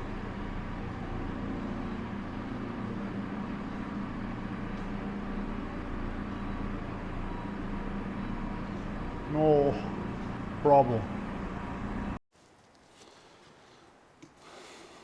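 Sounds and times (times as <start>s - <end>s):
heavy machine engine running: 0.0s - 12.2s.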